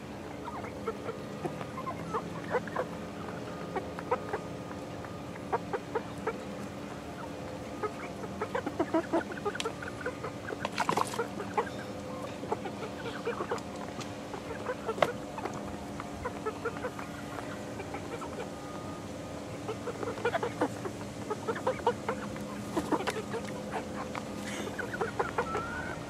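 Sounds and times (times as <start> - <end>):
chickens clucking and chirping: 0.0 - 26.0
steady low hum: 0.0 - 26.0.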